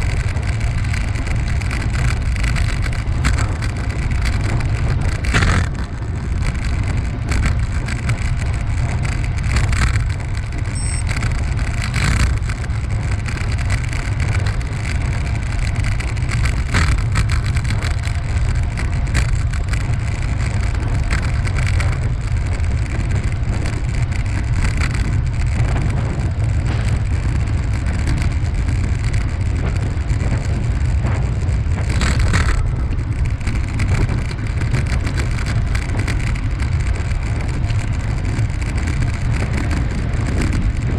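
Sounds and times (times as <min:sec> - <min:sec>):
bicycle rolling noise: 0:00.0 - 0:40.9
wind buffeting microphone: 0:00.0 - 0:40.9.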